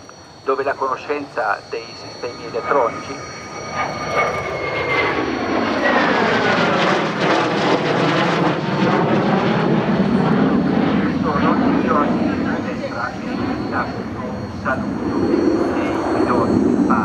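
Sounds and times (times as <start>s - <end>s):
fighter jet passing by: 0.0s - 17.0s.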